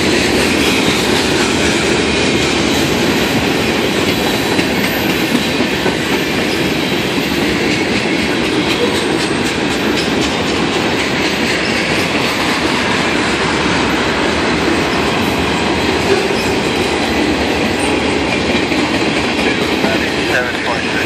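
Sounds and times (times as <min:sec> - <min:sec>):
train wheels running over rails: 0:00.0 - 0:21.0.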